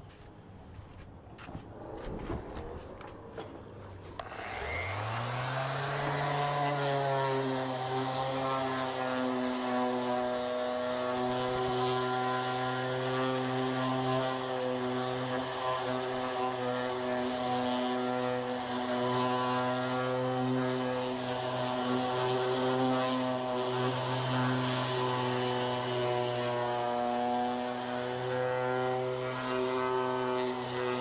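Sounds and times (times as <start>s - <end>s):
electric motor hum: 1.6s - 31.0s.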